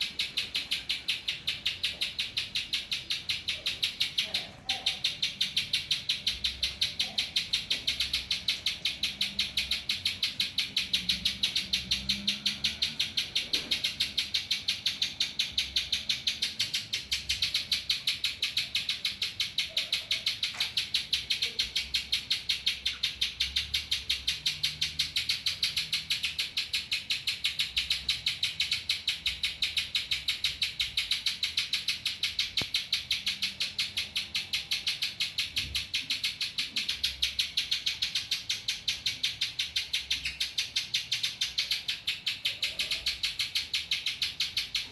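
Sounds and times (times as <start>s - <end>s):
bird rapid high chirps: 0.0s - 44.9s.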